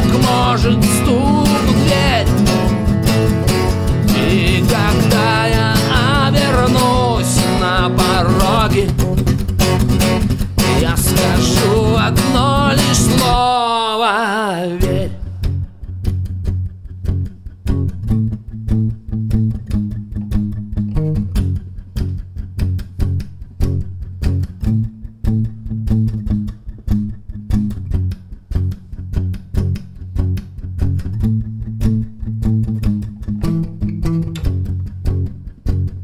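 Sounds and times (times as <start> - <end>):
guitar strumming: 0.0 - 36.0.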